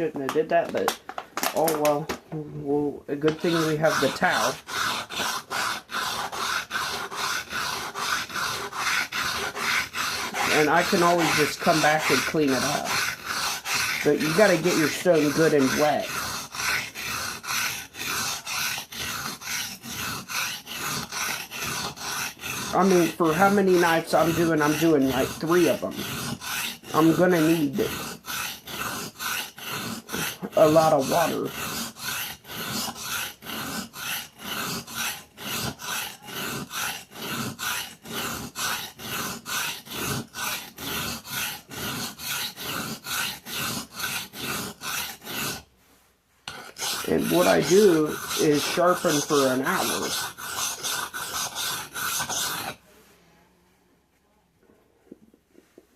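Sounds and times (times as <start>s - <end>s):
knife scraping on whetstone: 3.2s - 45.7s, 46.5s - 52.8s.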